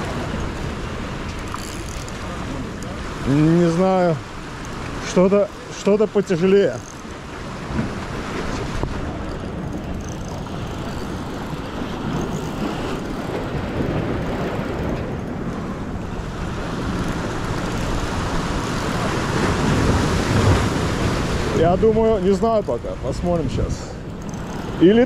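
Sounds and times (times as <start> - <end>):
sea waves washing against rocks: 0.0 - 25.0
wind buffeting microphone: 0.0 - 25.0.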